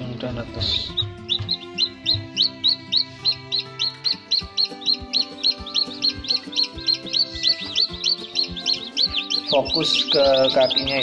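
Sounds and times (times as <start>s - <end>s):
background music: 0.0s - 11.0s
chicks peeping: 0.2s - 11.0s.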